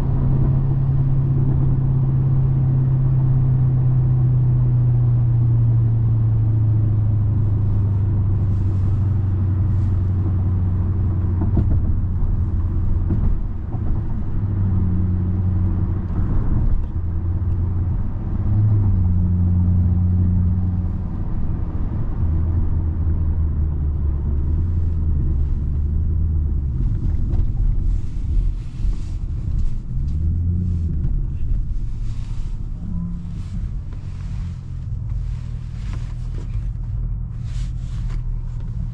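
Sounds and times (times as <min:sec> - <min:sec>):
car engine running: 0:00.0 - 0:38.9
low road rumble: 0:00.0 - 0:38.9.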